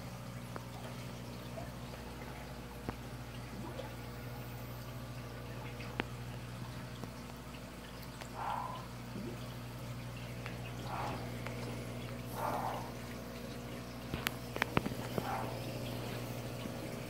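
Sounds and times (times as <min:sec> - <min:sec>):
aquarium pump hum: 0:00.0 - 0:17.0
water gurgling and splashing: 0:00.0 - 0:17.0.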